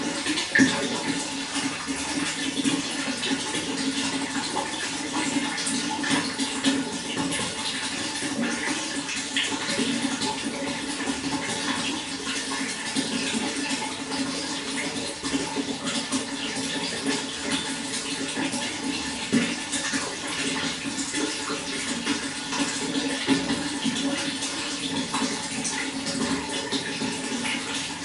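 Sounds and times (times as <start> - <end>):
running water rushing: 0.0 - 28.0.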